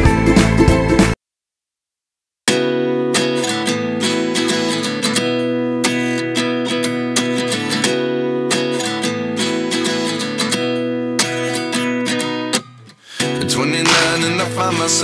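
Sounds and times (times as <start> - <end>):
strummed acoustic guitar: 2.5 - 15.0.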